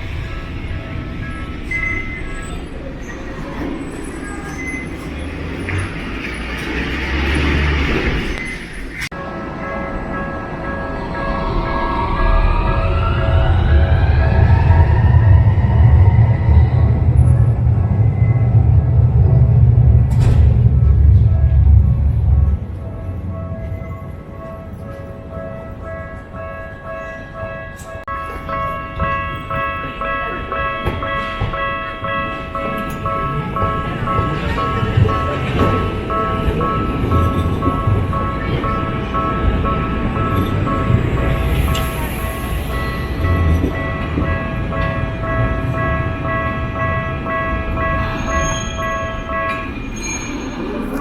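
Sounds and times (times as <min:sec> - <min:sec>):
low rumble of traffic: 0:00.0 - 0:48.0.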